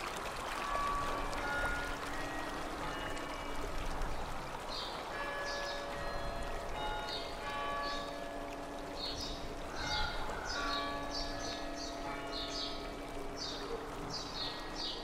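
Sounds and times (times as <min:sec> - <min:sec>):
church bells ringing: 0:00.6 - 0:03.6, 0:05.1 - 0:15.0.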